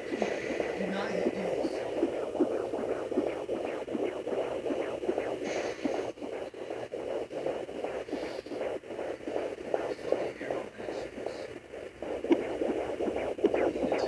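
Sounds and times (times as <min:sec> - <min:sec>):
fetal heartbeat whooshing pulses: 0:00.0 - 0:14.0
static hiss: 0:00.0 - 0:14.0.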